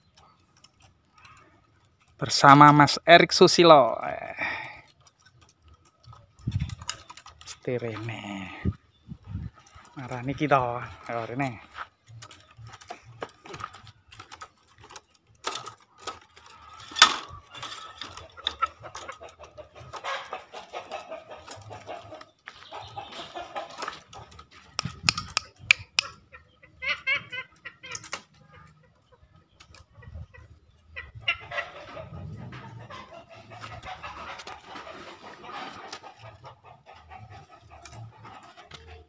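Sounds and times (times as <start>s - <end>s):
clicks and rustles: 0.0s - 3.8s, 4.6s - 26.3s, 31.4s - 39.0s
junglefowl clucking: 2.5s - 8.8s, 9.4s - 39.0s.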